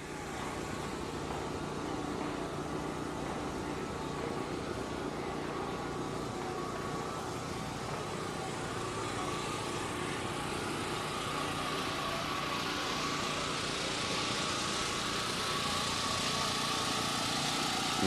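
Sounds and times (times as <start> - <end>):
motorcycle engines droning: 0.0 - 18.0.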